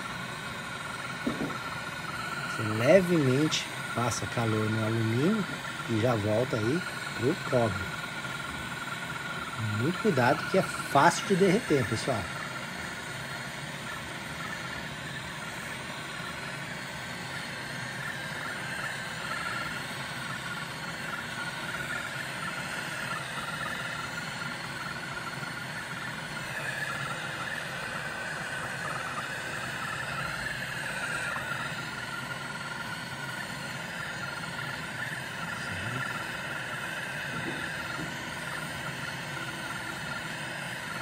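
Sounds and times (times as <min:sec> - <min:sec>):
gas torch flame hissing: 0:00.0 - 0:41.0.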